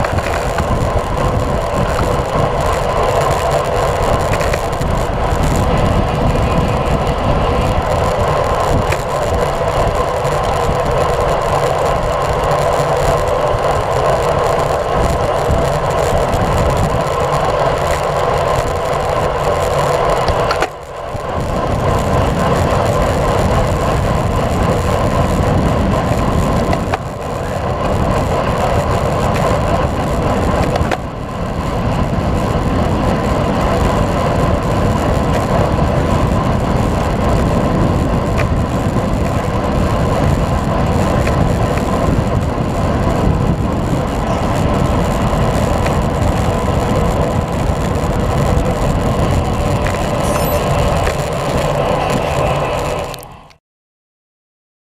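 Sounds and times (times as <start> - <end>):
tyre and road noise: 0.0 - 53.6
wind rushing over microphone: 0.0 - 53.6.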